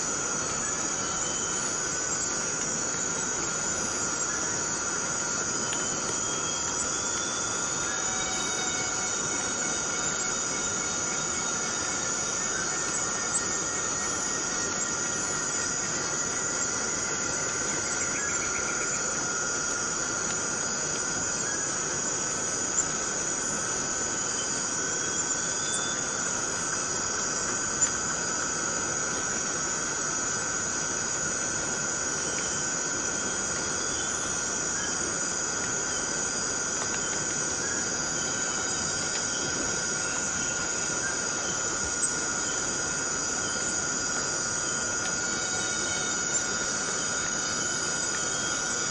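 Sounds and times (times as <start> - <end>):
cicadas droning: 0.0 - 48.9.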